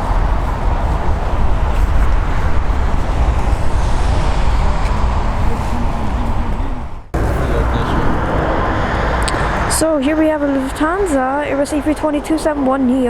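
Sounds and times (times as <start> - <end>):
jet aircraft noise: 0.0 - 13.0.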